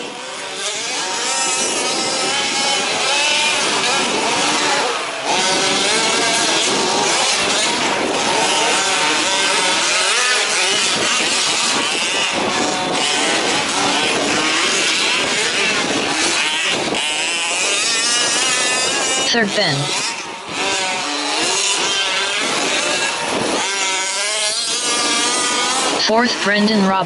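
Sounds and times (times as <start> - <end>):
small engines revving: 0.0 - 27.0.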